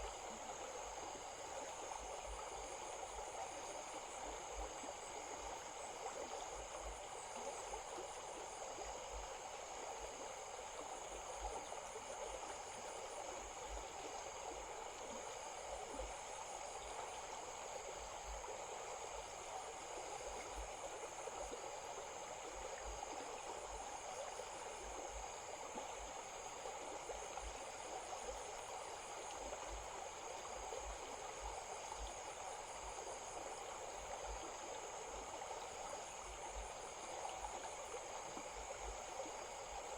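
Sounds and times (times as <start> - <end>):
faint pulsing insect trill: 0.0 - 39.9
stream running over stones: 0.0 - 39.9.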